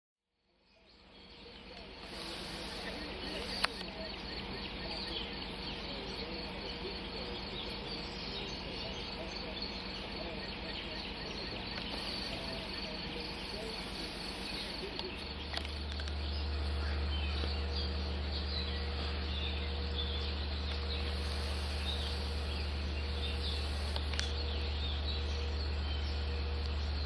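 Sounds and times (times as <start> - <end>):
steady low hum: 0.5 - 27.0
birds chirping: 0.6 - 27.0
insects trilling: 0.8 - 27.0.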